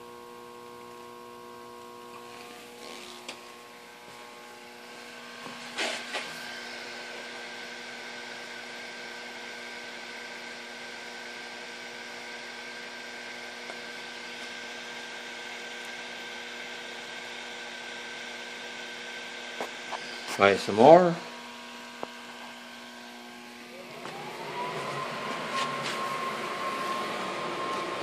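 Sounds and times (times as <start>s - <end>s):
steady hum with tones: 0.0s - 28.0s.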